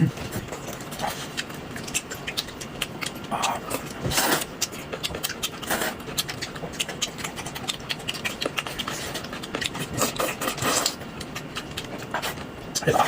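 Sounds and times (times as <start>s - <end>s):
person biting and chewing: 0.5s - 12.9s.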